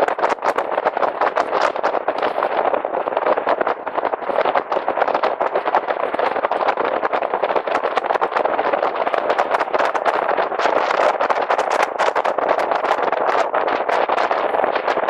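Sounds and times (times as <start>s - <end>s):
wind and water crackling on microphone: 0.0s - 15.0s.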